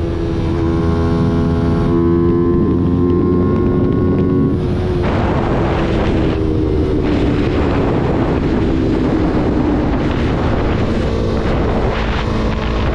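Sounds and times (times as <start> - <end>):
motorcycle engine running: 0.0 - 12.9
wind noise on microphone: 0.0 - 12.9.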